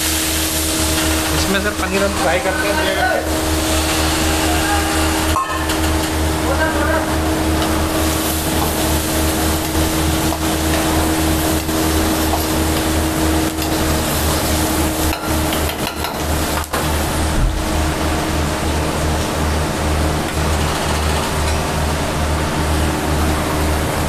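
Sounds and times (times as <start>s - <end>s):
food frying in a wok: 0.0s - 24.0s.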